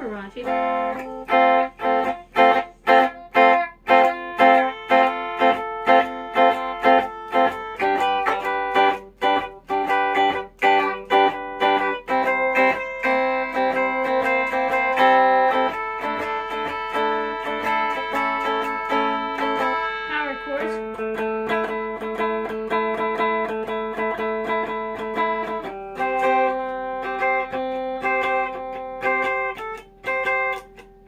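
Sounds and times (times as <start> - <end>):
overdriven electric ukulele chords: 0.0 - 31.0.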